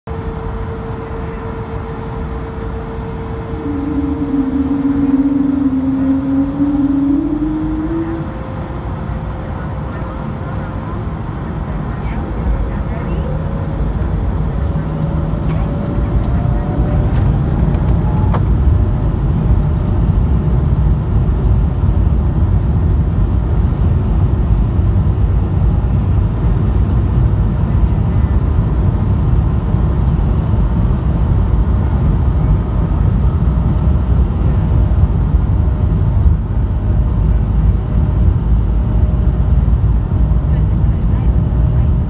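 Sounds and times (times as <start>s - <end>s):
airplane cabin low rumble: 0.1s - 42.0s
faint engine whine: 0.1s - 42.0s.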